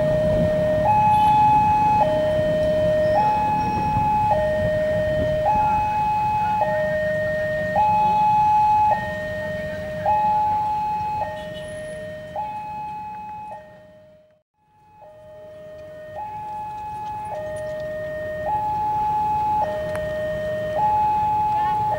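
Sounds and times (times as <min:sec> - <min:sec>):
level-crossing two-tone alarm: 0:00.0 - 0:21.9.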